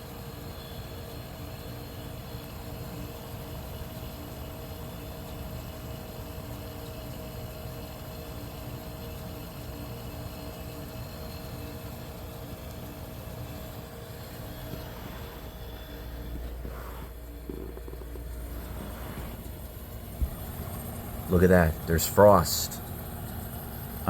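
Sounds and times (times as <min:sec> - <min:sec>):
compressor hum: 0:00.0 - 0:24.0
fan whirring: 0:00.0 - 0:24.0.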